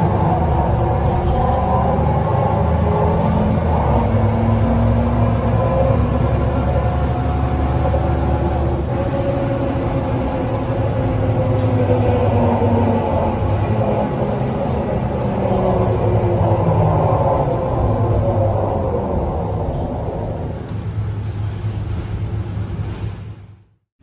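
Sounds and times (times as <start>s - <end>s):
diesel engine drone: 0.0s - 23.2s
bus axle whine: 0.0s - 23.3s.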